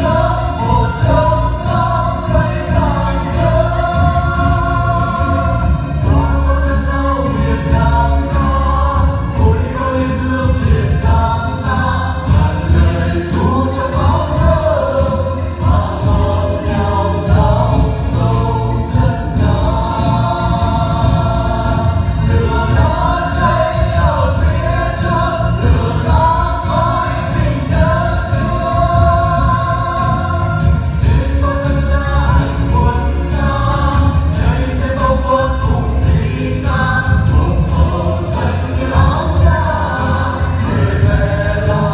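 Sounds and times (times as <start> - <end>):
backing music with strong bass: 0.0 - 41.9
group singing: 0.0 - 41.9.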